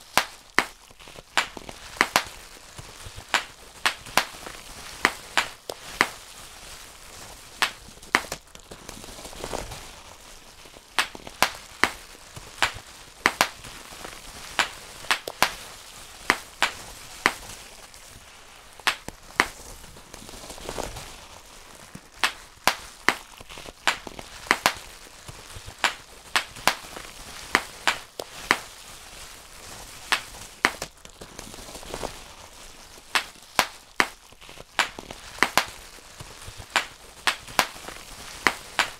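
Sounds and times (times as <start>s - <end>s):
bubble wrap popping: 0.0s - 38.9s
plastic sheet rustling: 0.0s - 38.9s.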